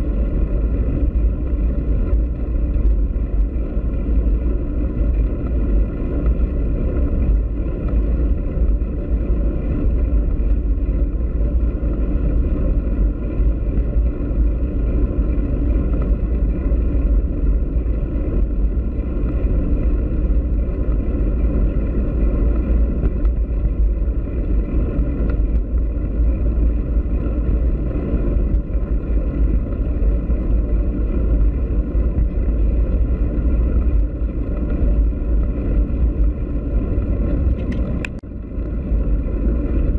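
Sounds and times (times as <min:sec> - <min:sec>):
faint steady whine: 0:00.0 - 0:39.9
wind buffeting microphone: 0:00.0 - 0:39.9.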